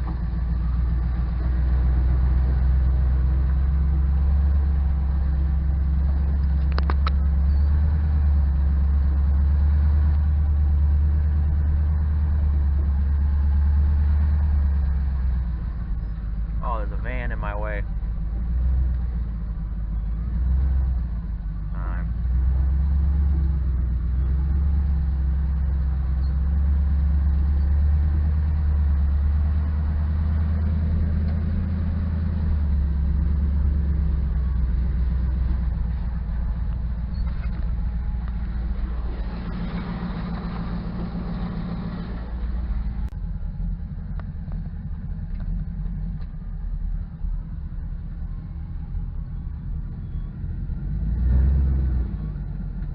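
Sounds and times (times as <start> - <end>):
road noise: 0.0 - 52.9
truck engine drone: 0.0 - 52.9.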